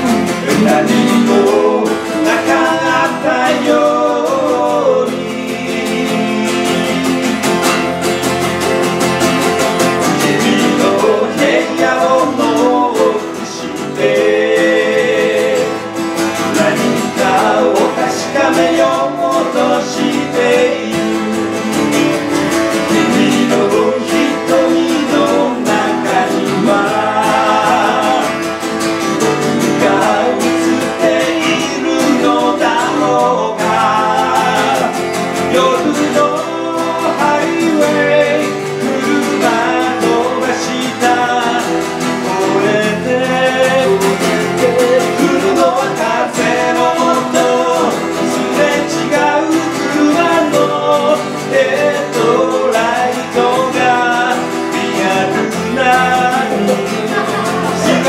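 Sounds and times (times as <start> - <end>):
man singing into microphone: 0.0 - 7.4, 10.0 - 58.0
acoustic guitars strumming: 0.0 - 58.0.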